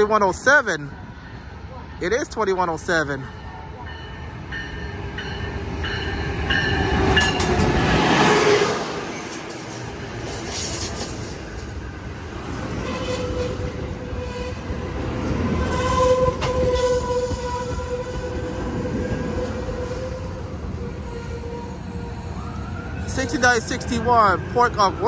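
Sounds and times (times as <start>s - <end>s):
train cars rumbling: 0.0s - 25.0s.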